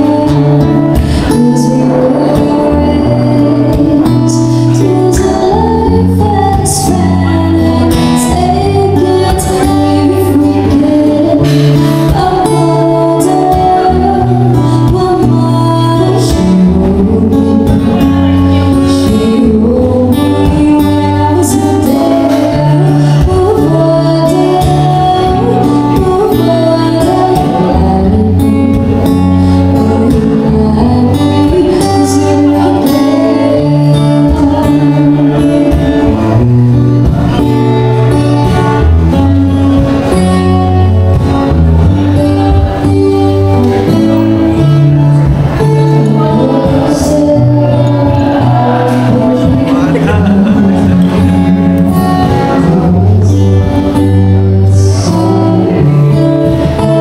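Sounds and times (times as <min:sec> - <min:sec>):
acoustic guitar: 0:00.0 - 0:57.0
woman singing: 0:00.0 - 0:57.0.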